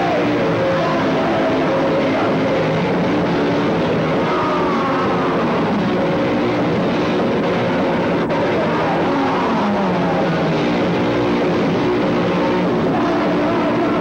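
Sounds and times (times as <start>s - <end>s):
bass guitar: 0.0s - 14.0s
distorted electric guitar: 0.0s - 14.0s
drums: 0.0s - 14.0s
punk band playing live: 0.0s - 14.0s.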